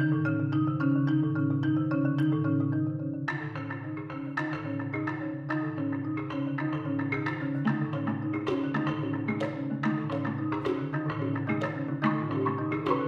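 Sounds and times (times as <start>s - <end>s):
marimba ensemble playing: 0.0s - 13.0s.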